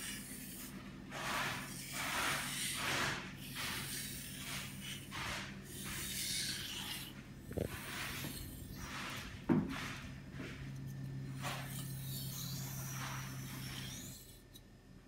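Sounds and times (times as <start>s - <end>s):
knife scraping on whetstone: 0.0s - 14.7s.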